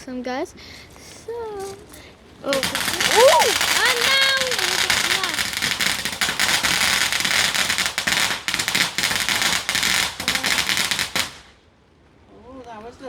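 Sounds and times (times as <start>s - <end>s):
fireworks crackling: 0.4s - 11.6s.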